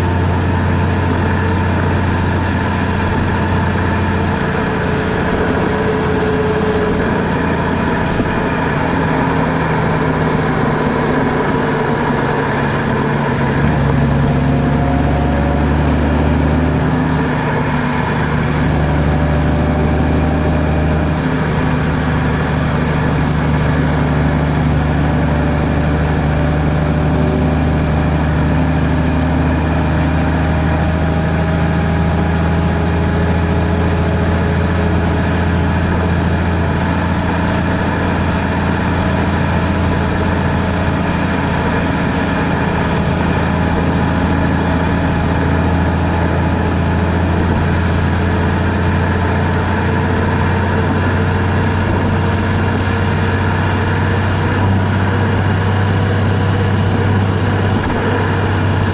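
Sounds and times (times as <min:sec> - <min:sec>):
car engine running: 0:00.0 - 0:58.9
road noise: 0:00.0 - 0:58.9.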